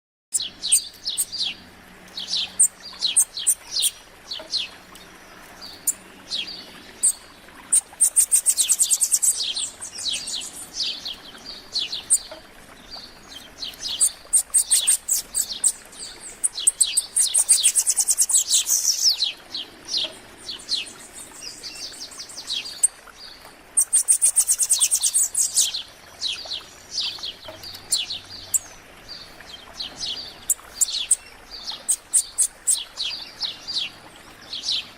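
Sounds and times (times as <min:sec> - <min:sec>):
songbirds chirping: 0:00.4 - 0:34.9.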